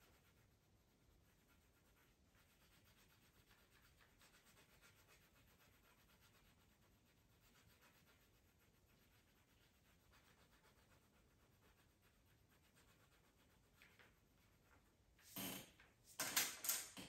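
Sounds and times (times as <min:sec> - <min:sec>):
pencil scratching on paper: 0:00.0 - 0:15.4.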